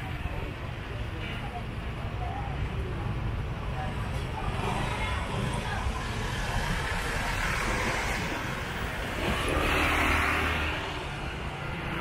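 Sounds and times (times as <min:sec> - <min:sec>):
steady traffic din: 0:00.0 - 0:12.0.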